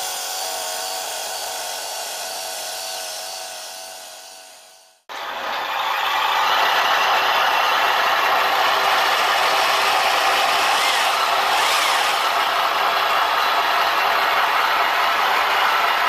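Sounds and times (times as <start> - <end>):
toy truck motor droning: 0.0 - 16.0.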